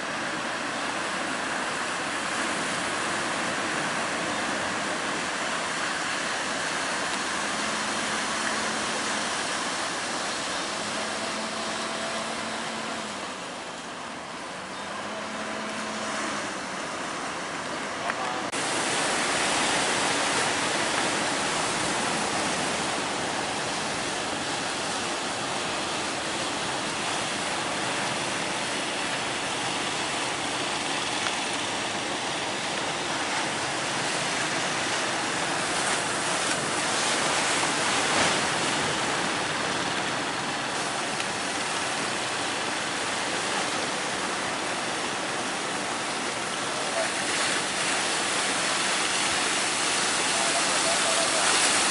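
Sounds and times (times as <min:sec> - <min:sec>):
heavy surf breaking: 0:00.0 - 0:51.9.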